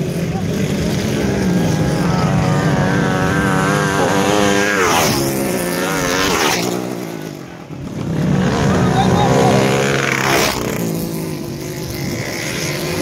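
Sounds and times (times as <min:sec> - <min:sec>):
dirt bike engines racing: 0:00.0 - 0:13.0.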